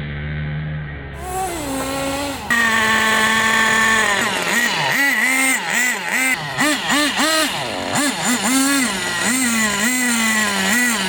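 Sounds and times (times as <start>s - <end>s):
rc car engine idling and revving: 0.0s - 11.0s.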